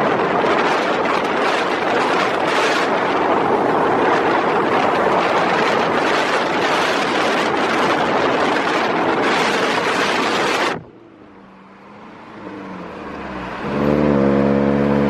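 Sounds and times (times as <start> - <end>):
car rushing noise: 0.0 - 15.0.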